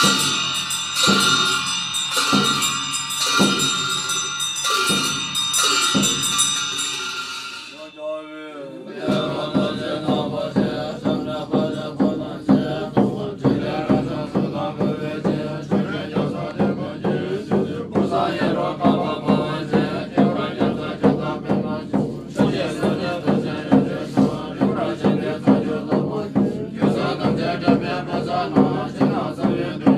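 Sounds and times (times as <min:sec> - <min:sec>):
percussion beat: 0:00.0 - 0:08.2, 0:08.9 - 0:29.9
monks chanting: 0:00.0 - 0:29.9.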